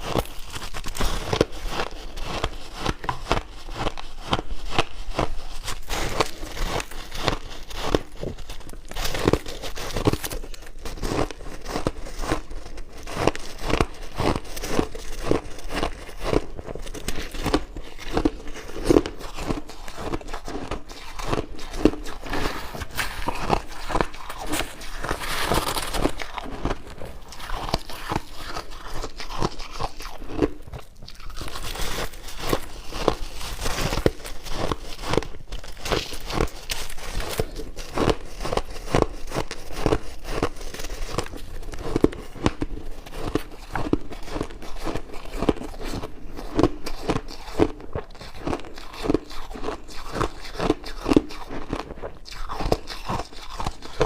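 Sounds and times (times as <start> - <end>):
ice crunching while chewed: 0.0 - 54.0.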